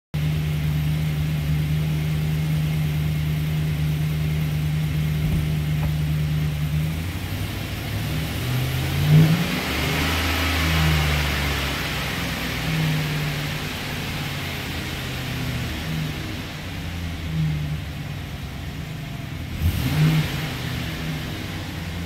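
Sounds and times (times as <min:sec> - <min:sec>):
truck engine idling and revving: 0:00.2 - 0:22.0.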